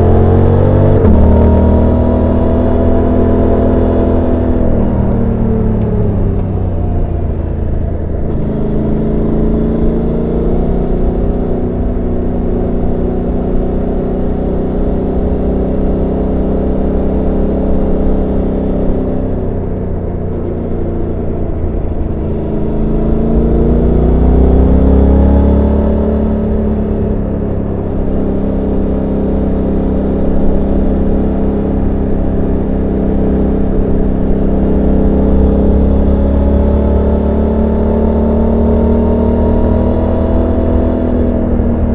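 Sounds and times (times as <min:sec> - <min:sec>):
motorcycle engine while riding: 0:00.0 - 0:41.9.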